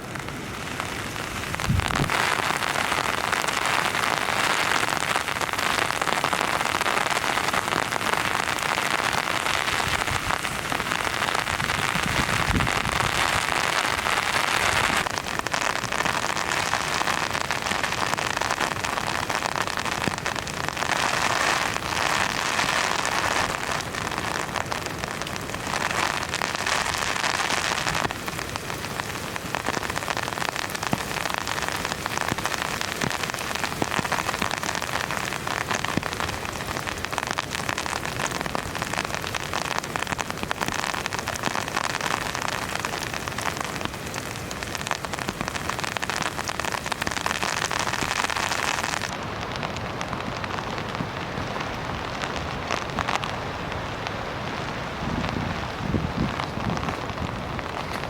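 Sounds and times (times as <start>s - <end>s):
heavy rain on shelter: 0.0s - 58.0s.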